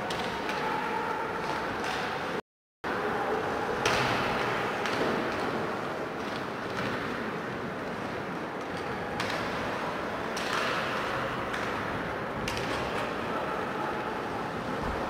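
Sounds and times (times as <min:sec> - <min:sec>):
ice hockey arena noise: 0:00.0 - 0:15.0.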